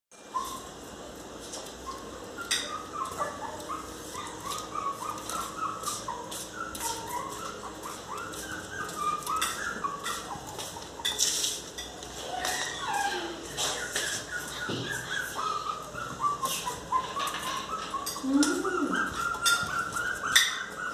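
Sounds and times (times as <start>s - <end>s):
dogs whining: 0.2s - 20.9s
paws scratching glass door: 0.2s - 20.9s.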